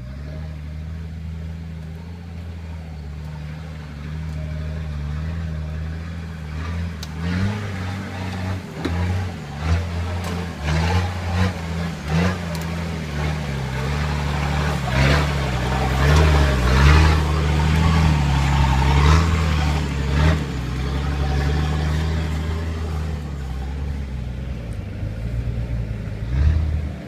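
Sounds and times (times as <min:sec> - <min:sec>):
engine running at low revs: 0:00.0 - 0:27.0.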